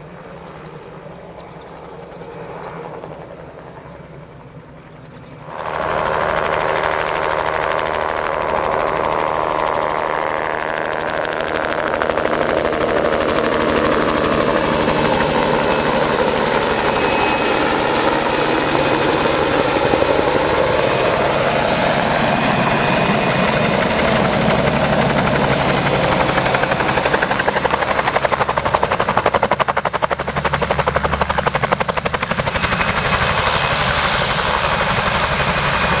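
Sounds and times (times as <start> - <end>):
helicopter engine whine: 0.0 - 36.0
helicopter rotor chop: 4.8 - 36.0.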